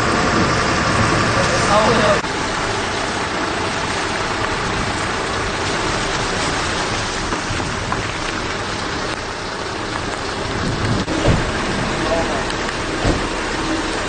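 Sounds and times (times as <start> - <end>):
steady rain falling: 0.0 - 14.0
vehicle engine running: 0.0 - 14.0.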